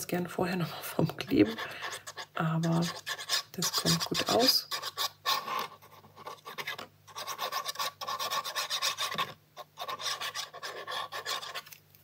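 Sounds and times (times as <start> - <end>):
paper rubbing against paper: 1.4 - 11.7.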